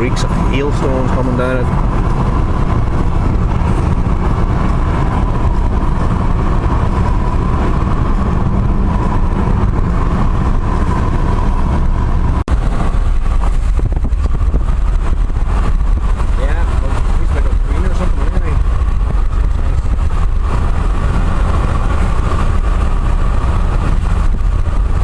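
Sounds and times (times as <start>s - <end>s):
car engine: 0.0s - 25.0s
road noise: 0.0s - 25.0s.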